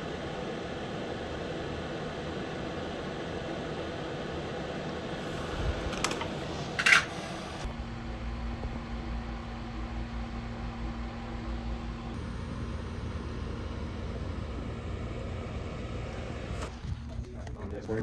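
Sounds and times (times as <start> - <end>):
fan hum with low rumble: 0.0 - 18.0.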